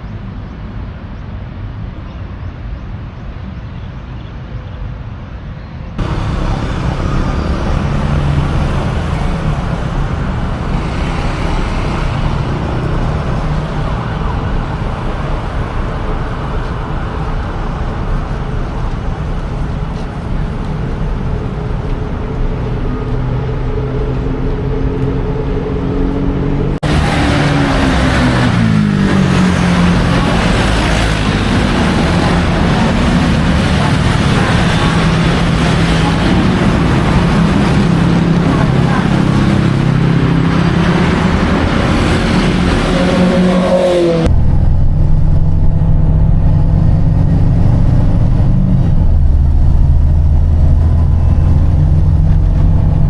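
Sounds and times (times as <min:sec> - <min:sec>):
street noise: 0:00.0 - 0:53.0
motor vehicle engines running: 0:05.8 - 0:53.0.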